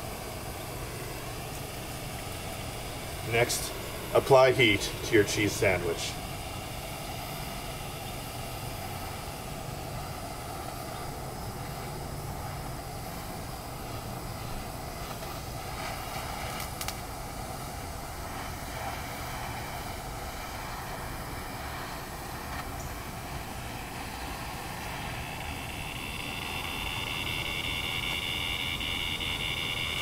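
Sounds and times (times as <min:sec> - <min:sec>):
propane torch flame rushing: 0:00.0 - 0:30.0.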